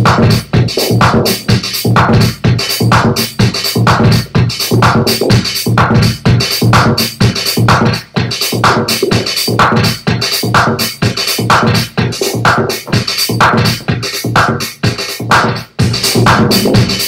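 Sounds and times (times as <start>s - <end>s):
electronic house music: 0.0s - 17.0s
four-on-the-floor kick drum beat: 0.0s - 17.0s.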